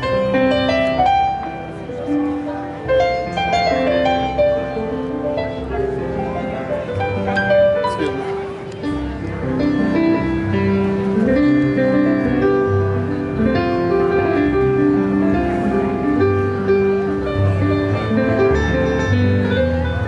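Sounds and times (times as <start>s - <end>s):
electronic keyboard through loudspeaker: 0.0s - 20.0s.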